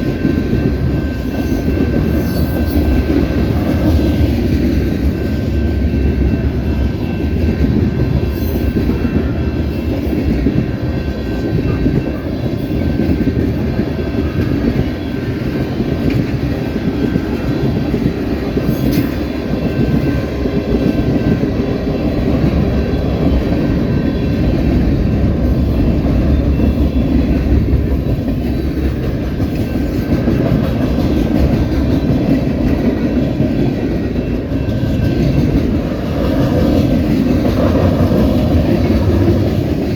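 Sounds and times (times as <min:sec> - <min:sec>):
freight train wheels rumbling: 0:00.0 - 0:39.9
wheels clickety-clack: 0:00.0 - 0:39.9.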